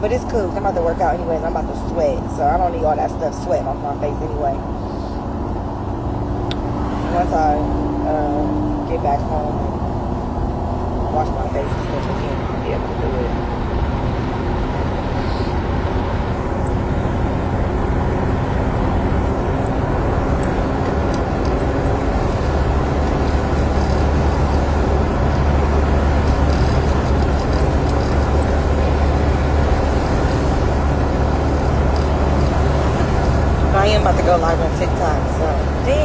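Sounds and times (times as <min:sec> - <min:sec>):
car interior rumble while driving: 0:00.0 - 0:36.0.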